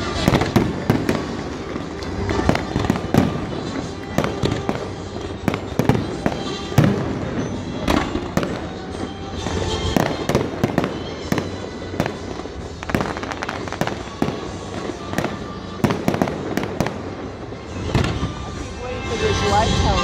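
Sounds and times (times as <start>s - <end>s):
fireworks shells bursting: 0.0s - 18.6s
fireworks crackle and rumble: 0.0s - 20.0s.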